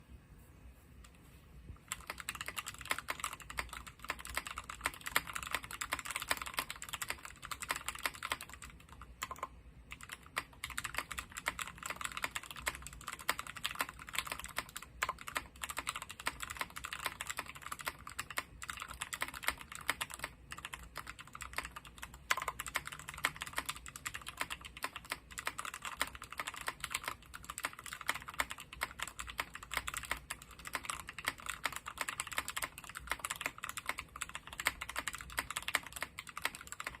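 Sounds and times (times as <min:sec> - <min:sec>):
fast typing on mechanical keyboard: 0:01.8 - 0:37.0.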